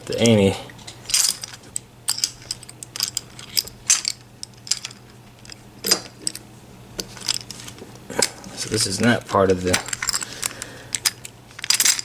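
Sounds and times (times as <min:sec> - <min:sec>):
handcuffs clinking: 0:01.1 - 0:12.0.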